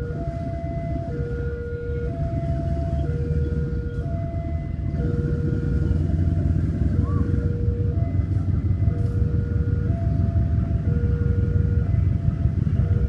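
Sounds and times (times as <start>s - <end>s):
locomotive engine rumbling: 0.0s - 13.0s.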